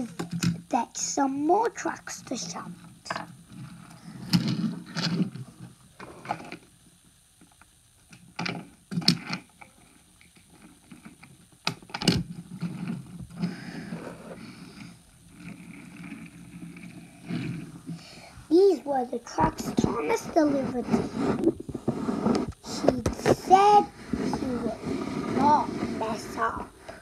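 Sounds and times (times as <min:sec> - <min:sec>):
toy wheels rolling on wooden floor: 0:01.5 - 0:06.7, 0:08.4 - 0:27.0.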